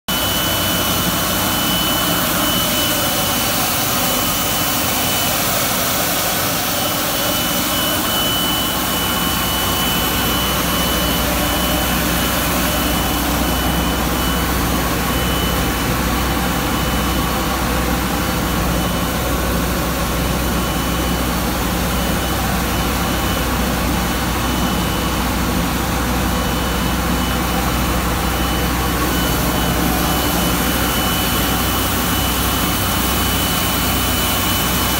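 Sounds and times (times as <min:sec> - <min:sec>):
thin high whine: 0:00.1 - 0:34.9.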